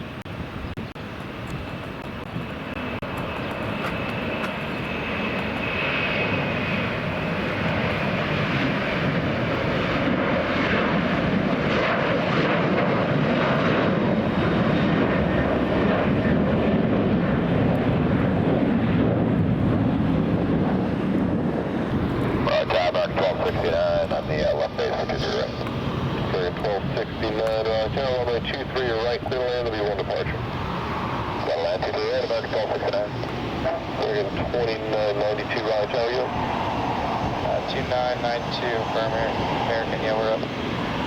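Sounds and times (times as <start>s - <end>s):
high engine whine: 0.0s - 41.0s
jet engines rushing: 0.0s - 41.0s.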